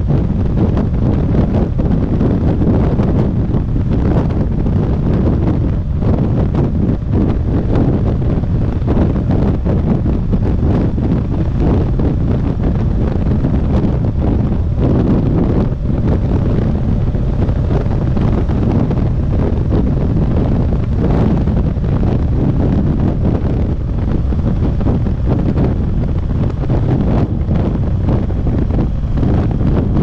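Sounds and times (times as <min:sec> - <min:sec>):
motorcycle running: 0:00.0 - 0:30.0
wind buffeting microphone: 0:00.0 - 0:30.0.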